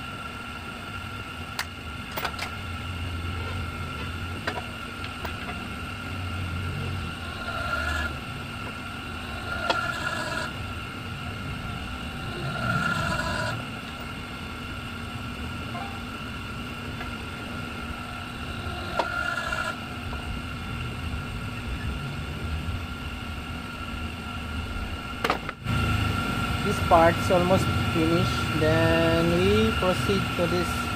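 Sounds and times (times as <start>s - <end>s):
hydraulic machine humming: 0.0s - 30.9s.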